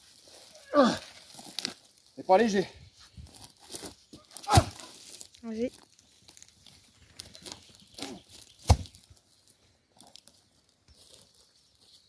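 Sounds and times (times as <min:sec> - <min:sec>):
soil and roots tearing: 0:00.0 - 0:02.2, 0:03.2 - 0:11.9.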